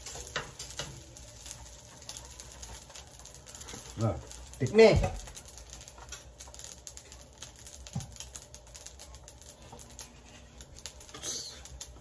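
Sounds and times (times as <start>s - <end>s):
food crackling in a pan: 0.0s - 12.0s.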